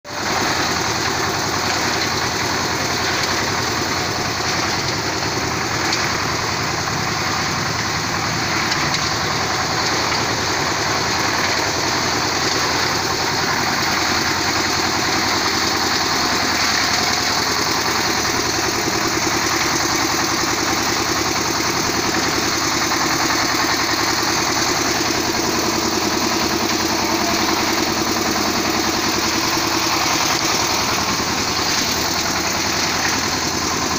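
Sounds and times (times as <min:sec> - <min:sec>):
steady mechanical drone: 0:00.1 - 0:33.9.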